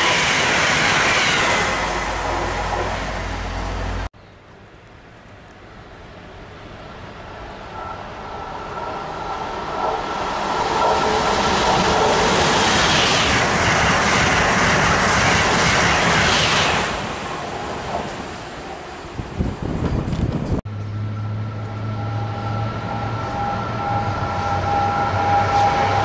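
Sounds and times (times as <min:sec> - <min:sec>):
train passing at speed: 0:00.0 - 0:04.1, 0:05.7 - 0:26.0
rushing rail noise: 0:00.0 - 0:26.0.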